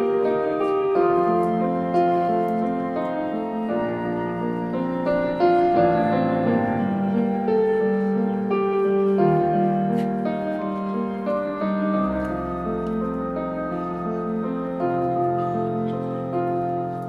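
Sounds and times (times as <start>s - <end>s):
slow piano ballad music: 0.0s - 17.0s.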